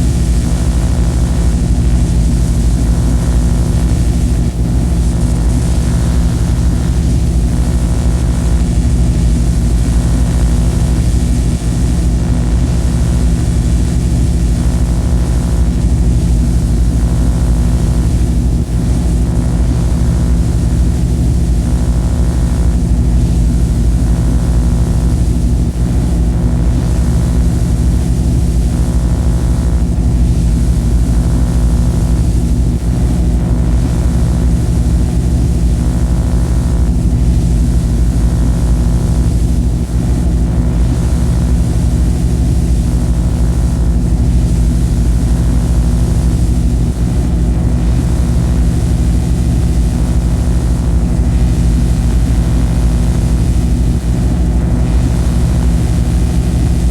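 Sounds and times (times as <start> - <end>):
electronic noise drone: 0.0 - 56.9.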